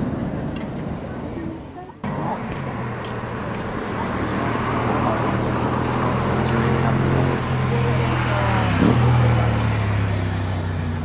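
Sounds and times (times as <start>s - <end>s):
vehicle mechanical hum: 0.0s - 11.0s.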